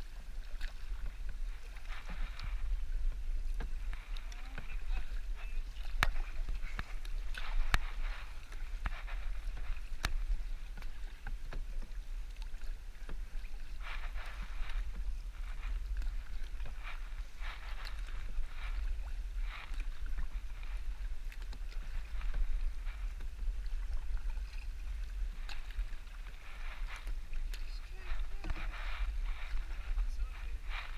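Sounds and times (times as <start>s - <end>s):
paddle splashes and drips: 0.0s - 30.9s.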